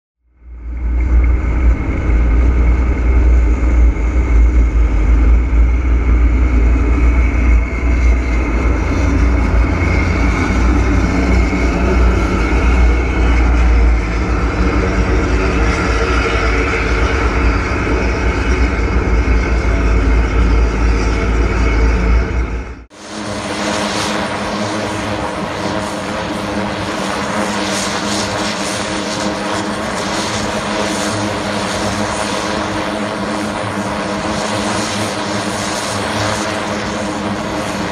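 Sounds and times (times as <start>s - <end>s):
propeller engine droning: 0.2s - 37.9s
turboprop engine humming: 0.2s - 37.9s.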